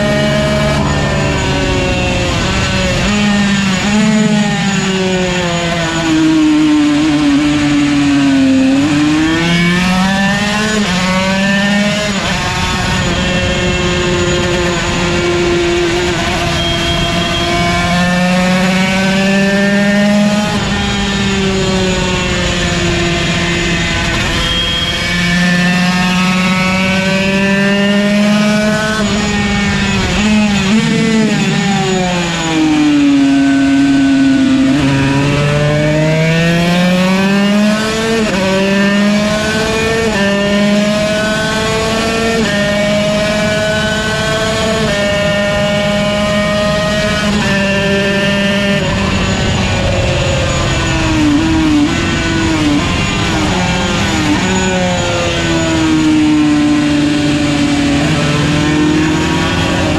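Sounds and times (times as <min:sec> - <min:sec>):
two-stroke racing engine revving: 0:00.0 - 0:59.9.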